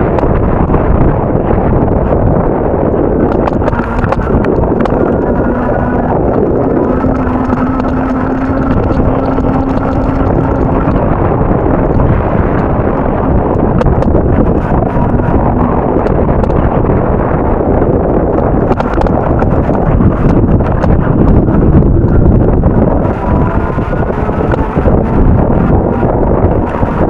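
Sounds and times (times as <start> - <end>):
steady low hum: 0.0 - 27.0
wind buffeting microphone: 0.0 - 27.0.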